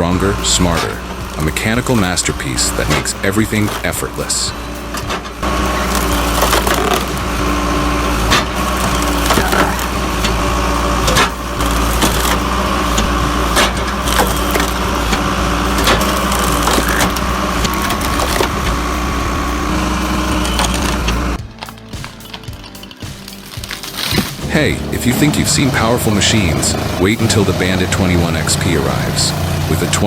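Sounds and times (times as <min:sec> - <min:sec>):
log splitter machine hum: 0:00.0 - 0:30.0
wood cracking and splitting: 0:00.0 - 0:30.0.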